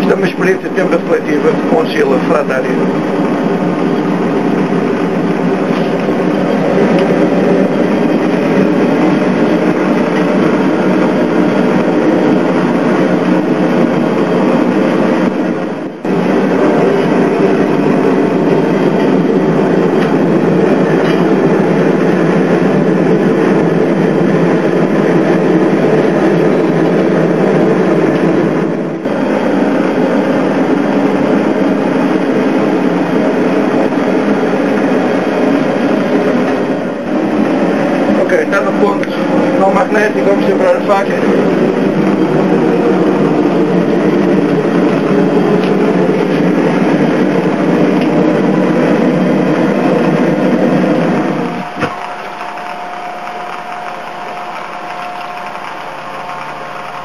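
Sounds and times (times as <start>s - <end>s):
gas forge burner rushing: 0.0s - 57.0s.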